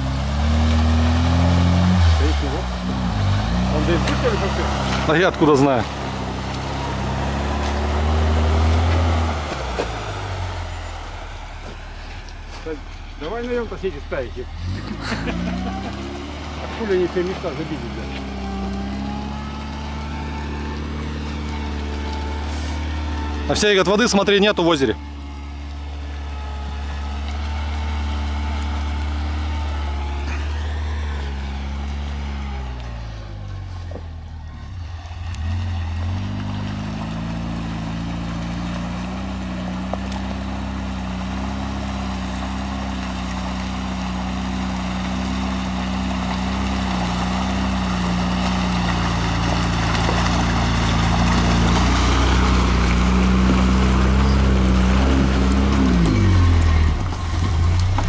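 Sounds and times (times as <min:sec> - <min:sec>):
vehicle engine running: 0:00.0 - 0:58.0
water churning around wheels: 0:00.0 - 0:58.0.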